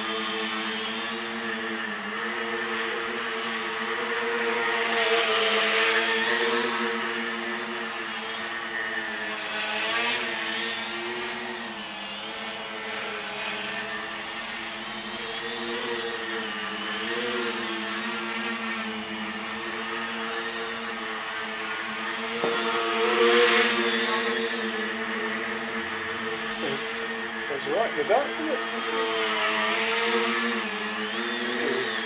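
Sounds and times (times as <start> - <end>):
drone propellers buzzing: 0.0 - 32.0.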